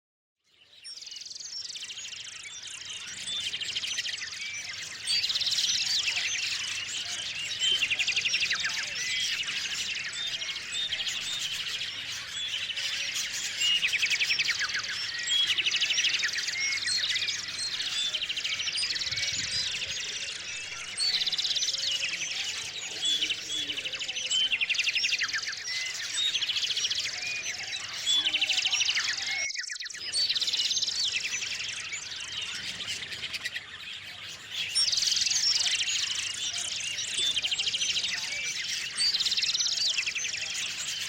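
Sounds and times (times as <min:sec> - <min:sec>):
songbirds chirping and trilling: 0:00.4 - 0:41.0.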